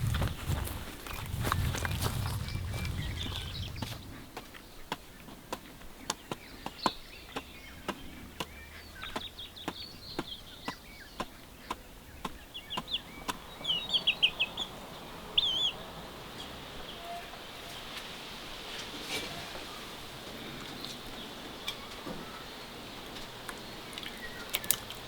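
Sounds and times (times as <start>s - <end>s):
birds chirping: 0.0s - 18.9s, 19.6s - 25.0s.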